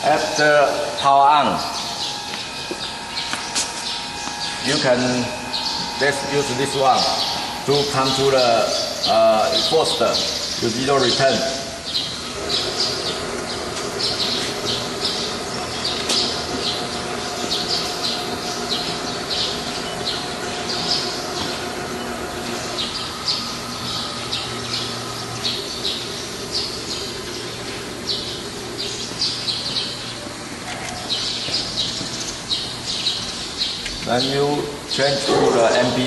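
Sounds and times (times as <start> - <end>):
birds chirping and squawking: 0.0 - 36.0
machine hum: 0.0 - 36.0.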